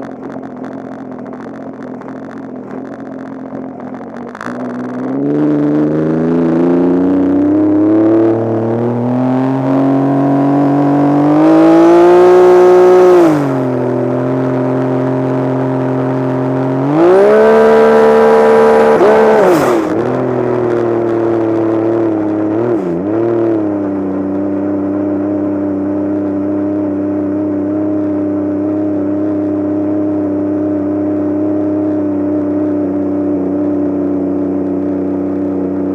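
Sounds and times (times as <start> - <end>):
high whine: 0.0 - 35.9.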